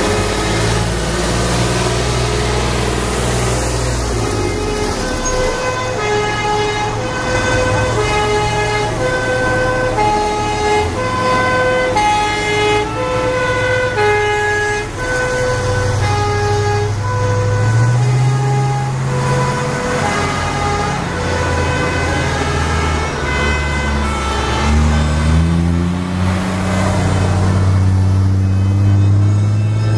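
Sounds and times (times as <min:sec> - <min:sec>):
fire engine two-tone sirens: 0:00.0 - 0:29.9
truck engines running: 0:00.0 - 0:29.9.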